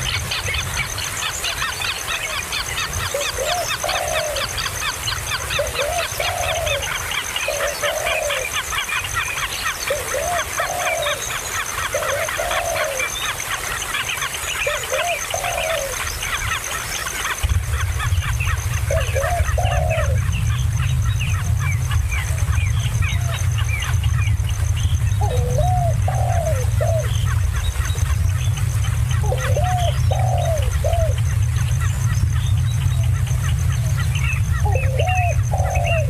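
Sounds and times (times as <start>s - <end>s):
nestling birds begging chirps: 0.0s - 36.0s.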